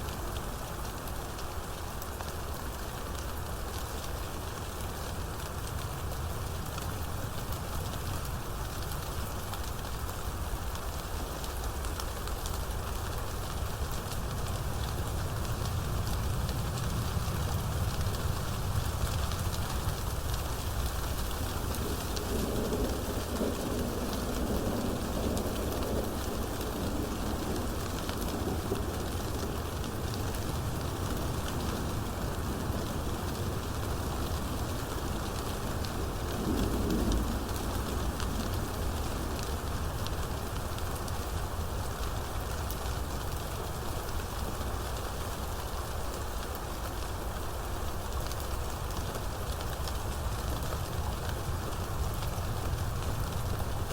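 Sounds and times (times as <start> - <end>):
steady rain pattering: 0.0 - 53.9.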